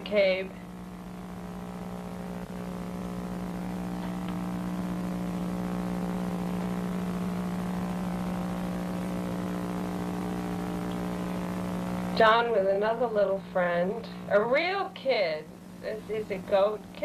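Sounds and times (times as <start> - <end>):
low droning hum with higher tones: 0.0 - 17.0.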